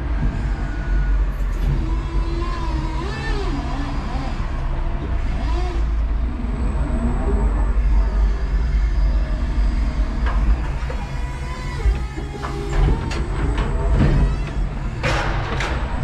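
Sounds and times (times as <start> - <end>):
electric forklift rumble and whine: 0.0 - 16.0.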